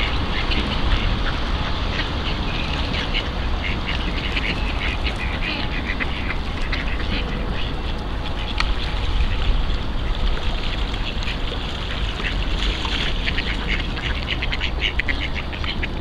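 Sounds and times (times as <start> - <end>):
ducks quacking: 0.0 - 16.0
steady low rumble: 0.0 - 16.0.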